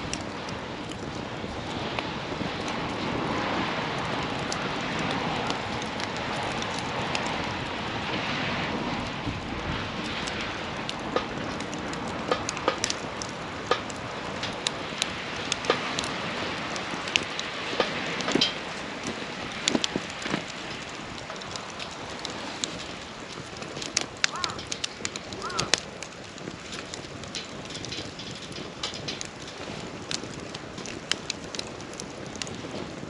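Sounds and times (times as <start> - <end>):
campfire crackles and pops: 0.0 - 33.0
campfire hissing: 0.0 - 33.0.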